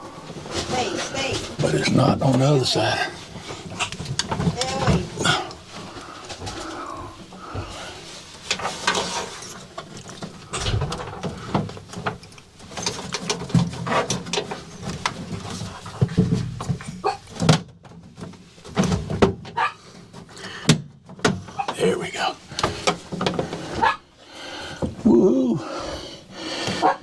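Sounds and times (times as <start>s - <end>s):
metal case knocking and scraping: 0.3s - 24.0s.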